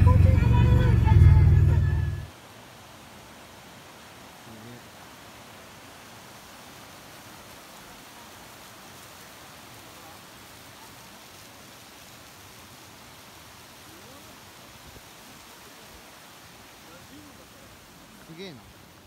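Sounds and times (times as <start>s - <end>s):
stream rushing over stones: 0.0s - 19.0s.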